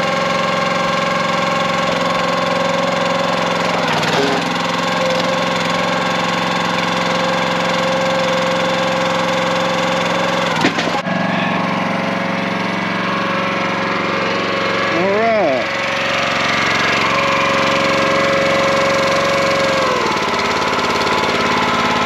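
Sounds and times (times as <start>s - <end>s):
small gasoline engine running: 0.0s - 22.0s.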